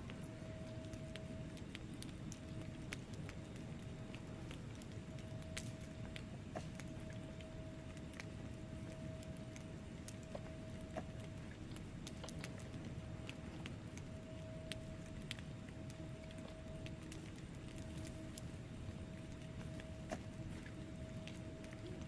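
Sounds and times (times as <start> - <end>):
fire flames rumbling: 0.0 - 22.0
logs crackling and popping: 0.0 - 22.0.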